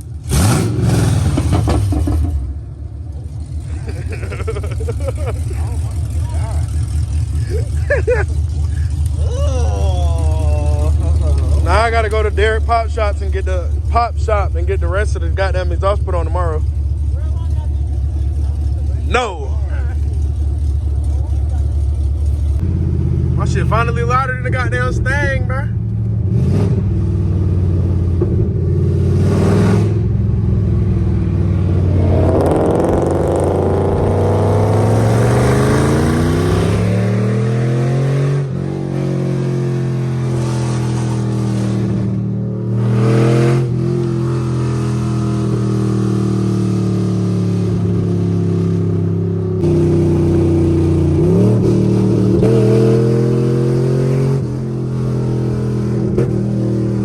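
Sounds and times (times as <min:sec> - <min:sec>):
loud car engine accelerating: 0:00.0 - 0:57.0.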